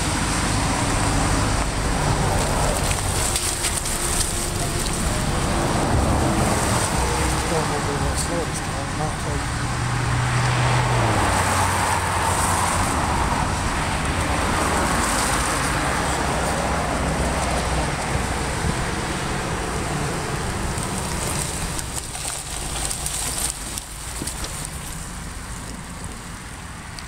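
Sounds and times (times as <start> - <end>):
passing vehicle hum: 0.0 - 27.0
tyres hissing on wet road: 0.0 - 27.0.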